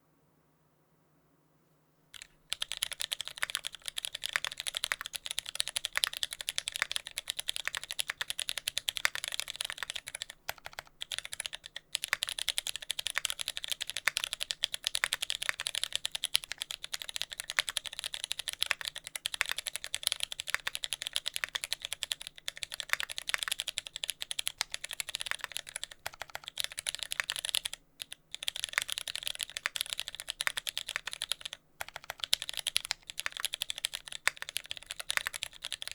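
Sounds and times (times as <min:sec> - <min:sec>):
fast mechanical keyboard typing: 0:02.2 - 0:35.9.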